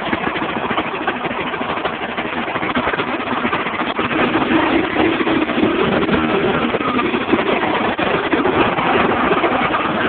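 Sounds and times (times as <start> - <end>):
lawnmower engine running: 0.0 - 10.0.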